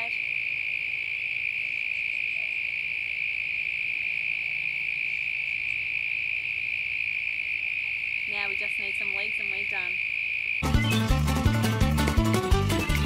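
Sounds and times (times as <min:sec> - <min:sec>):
insects chorus: 0:00.0 - 0:10.7.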